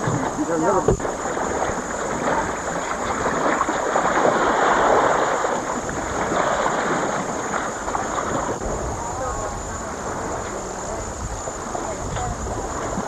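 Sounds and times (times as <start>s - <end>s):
waves washing along hull: 0.0s - 13.0s
wind on microphone: 0.0s - 13.0s.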